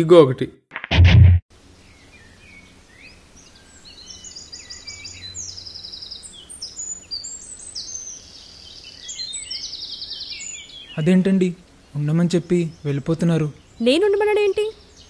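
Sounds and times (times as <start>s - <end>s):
birds chirping and trilling: 1.7s - 15.0s.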